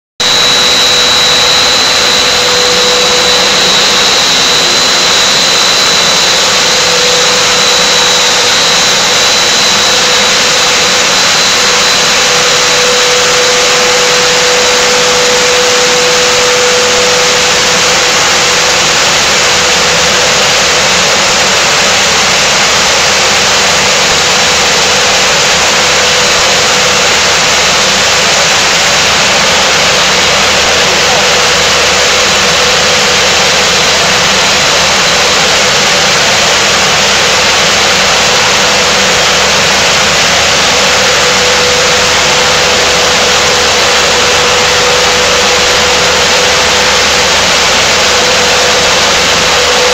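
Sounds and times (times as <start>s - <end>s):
extrusion machine hissing: 0.2s - 49.9s
high machine whine: 0.2s - 49.9s
low machine hum: 0.2s - 49.9s.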